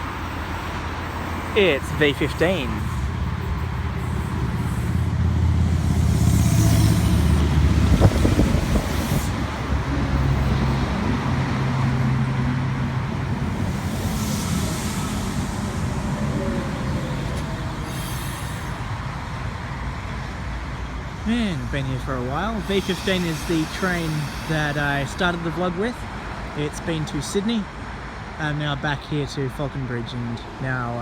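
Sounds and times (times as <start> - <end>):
train rumble and motor hum: 0.0 - 31.0.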